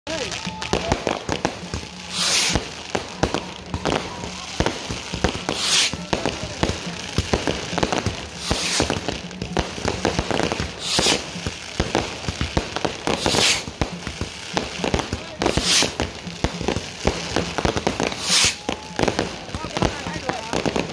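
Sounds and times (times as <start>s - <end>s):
fireworks cracks and pops: 0.1s - 20.9s
loud firework hiss: 0.1s - 20.9s.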